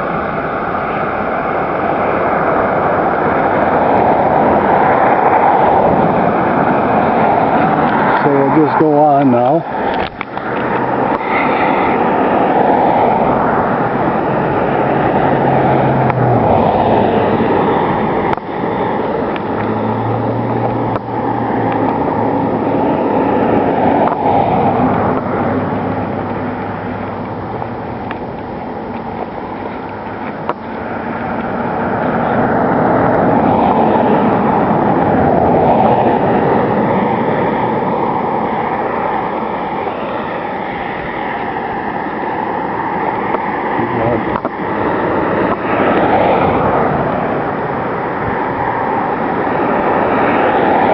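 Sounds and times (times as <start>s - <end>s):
low engine hum: 0.0s - 50.9s
vehicle road noise: 0.0s - 50.9s.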